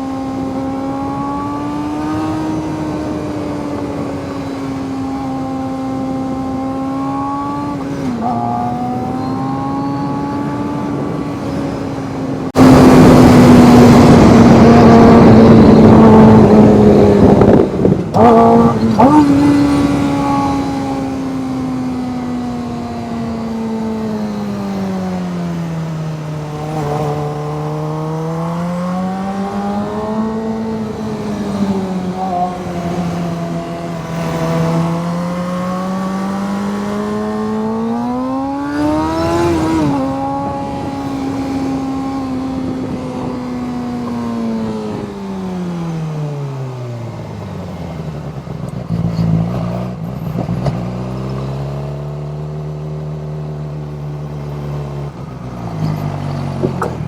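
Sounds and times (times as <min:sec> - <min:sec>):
motorcycle engine rising and falling: 0:00.0 - 0:57.0.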